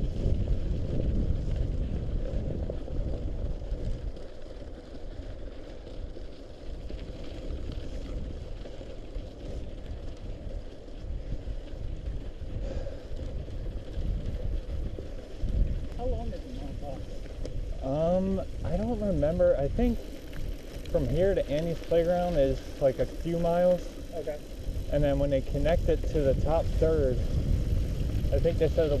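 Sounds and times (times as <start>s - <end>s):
bike tyres rumbling on slushy gravel: 0.0s - 29.0s
wind buffeting microphone: 0.0s - 29.0s.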